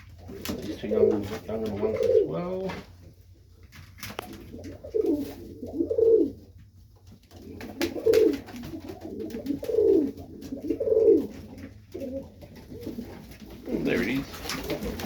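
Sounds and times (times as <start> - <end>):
pigeons cooing: 0.0 - 2.8, 4.0 - 6.6, 7.2 - 15.0.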